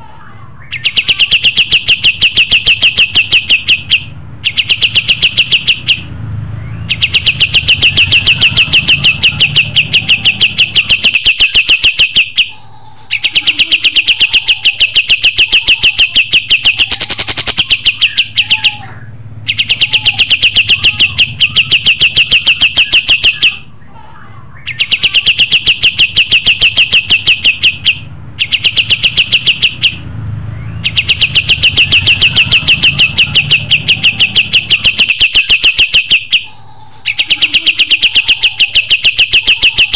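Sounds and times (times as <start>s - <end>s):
songbird fast rattling song: 0.6s - 23.7s, 24.6s - 39.9s.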